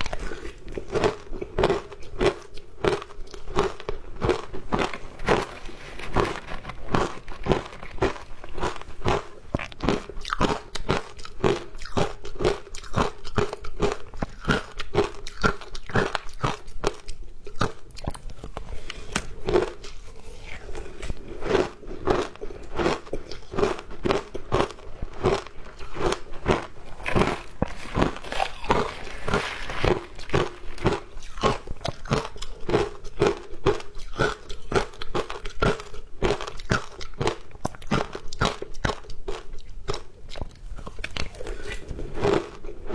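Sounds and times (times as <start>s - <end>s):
ice crunched between teeth: 0.0s - 42.9s.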